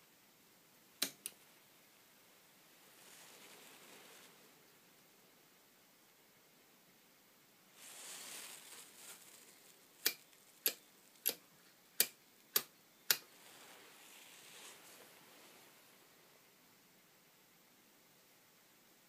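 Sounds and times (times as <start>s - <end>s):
rustle: 0.0s - 19.0s.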